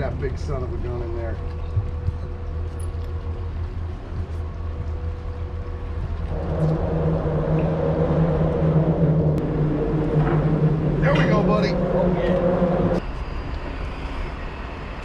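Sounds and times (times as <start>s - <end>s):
low rumble: 0.0s - 13.8s
low motor hum: 0.0s - 15.0s.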